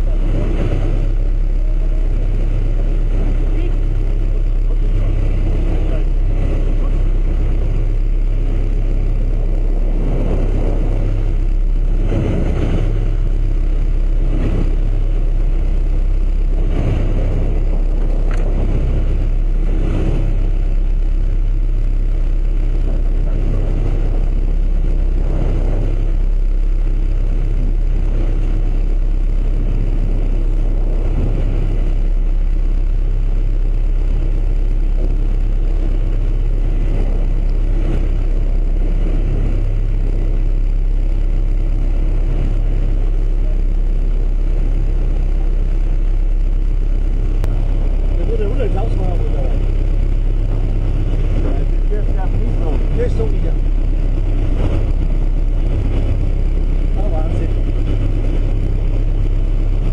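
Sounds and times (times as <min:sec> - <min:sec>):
boat engine humming: 0:00.0 - 0:59.9
rush of noise: 0:00.0 - 0:59.9.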